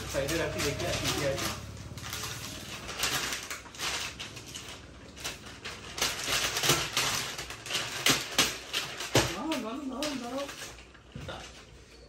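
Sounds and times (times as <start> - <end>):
paper and cardboard rustling: 0.0 - 12.0.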